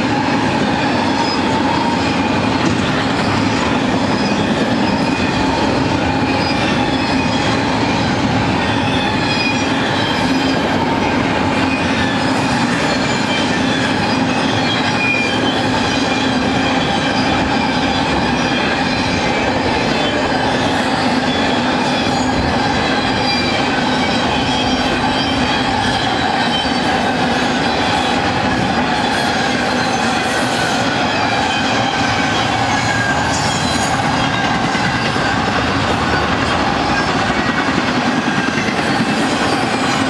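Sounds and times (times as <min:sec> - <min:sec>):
steel wheels rumbling on rail: 0:00.0 - 0:40.0
wheels squealing: 0:00.0 - 0:40.0.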